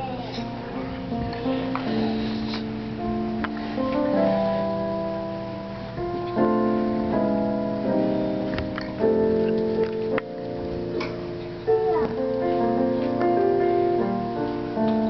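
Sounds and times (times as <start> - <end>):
keyboard playing slow chords: 0.0 - 15.0.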